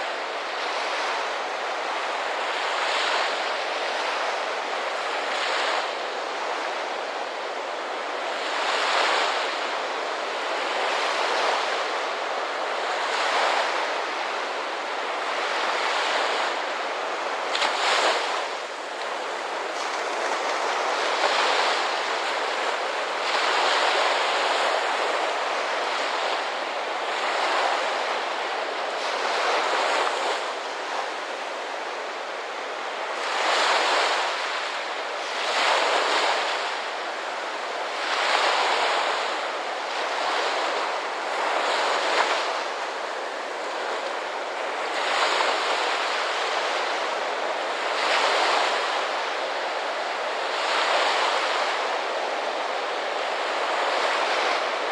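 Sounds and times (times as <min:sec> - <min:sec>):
ocean surf on shore: 0:00.0 - 0:54.9.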